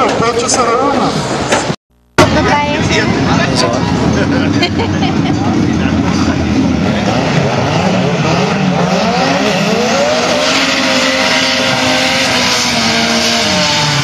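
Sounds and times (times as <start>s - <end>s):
race car engine running hard: 2.3s - 14.0s.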